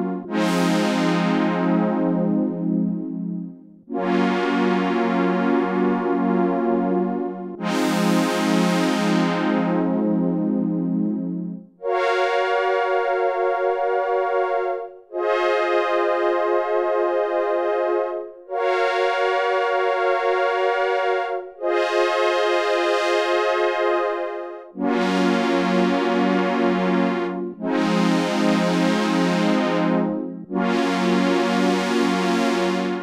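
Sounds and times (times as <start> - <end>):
synthesizer chords: 0.0 - 33.0.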